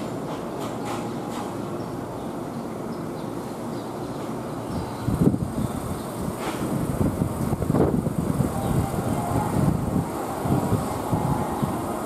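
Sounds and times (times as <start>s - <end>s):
electric train wheels rumbling: 0.0s - 12.0s.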